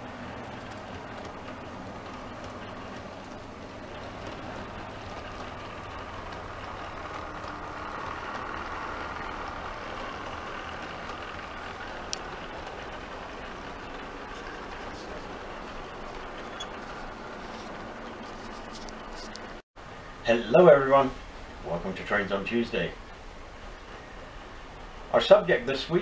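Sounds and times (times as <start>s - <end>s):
model train rolling past: 0.0s - 26.0s.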